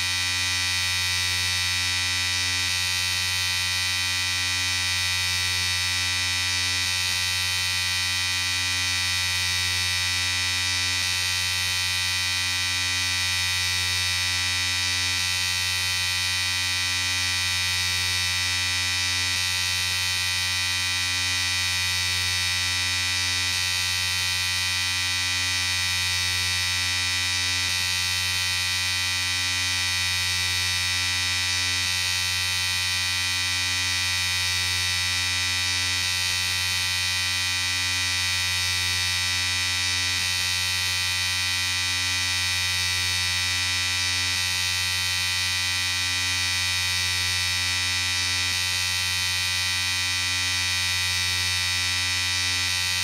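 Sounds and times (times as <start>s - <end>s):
electric shaver buzzing: 0.0s - 53.0s.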